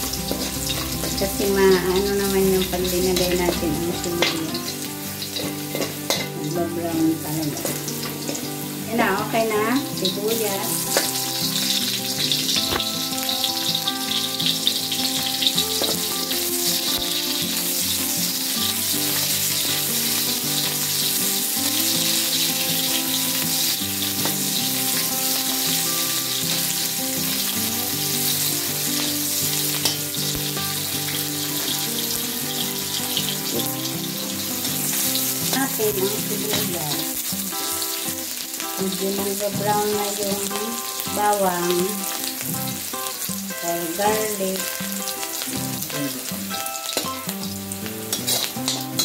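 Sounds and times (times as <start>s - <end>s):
garlic and onion sizzling in oil: 0.0s - 49.0s.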